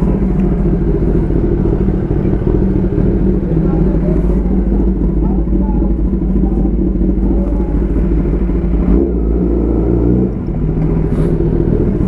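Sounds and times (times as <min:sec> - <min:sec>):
motorcycle engine running loudly: 0:00.0 - 0:12.0.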